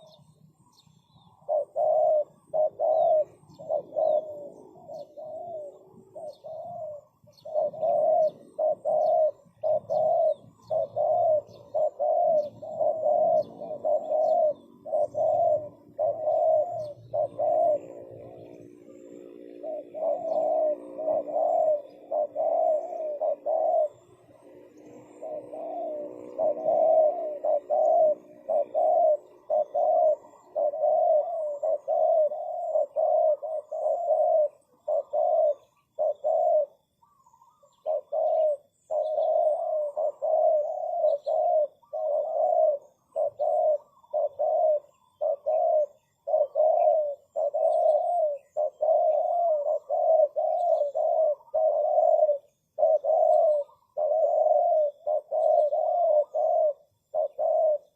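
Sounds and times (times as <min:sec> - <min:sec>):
doves cooing: 0:00.0 - 0:57.9.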